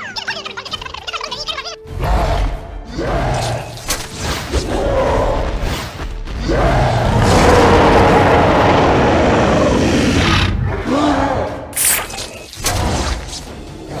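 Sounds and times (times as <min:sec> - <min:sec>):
music: 0:00.0 - 0:14.0.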